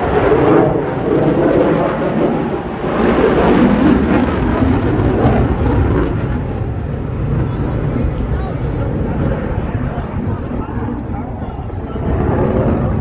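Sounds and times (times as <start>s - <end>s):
jet flying past rumbling: 0.0s - 13.0s.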